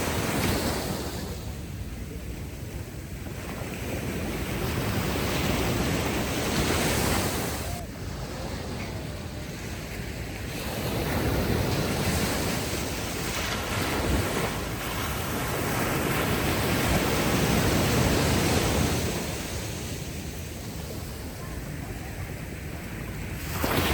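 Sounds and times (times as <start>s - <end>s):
ocean waves on sandy beach: 0.0s - 23.9s.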